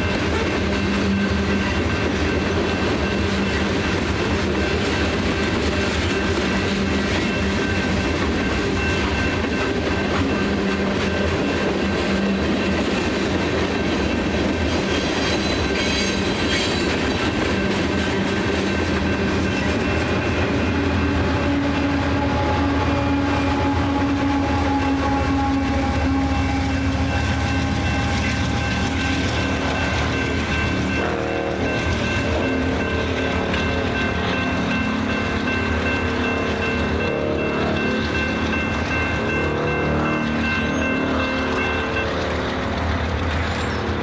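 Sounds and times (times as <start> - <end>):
diesel locomotive engine: 0.0 - 44.0
freight train wheels on rails: 0.0 - 44.0.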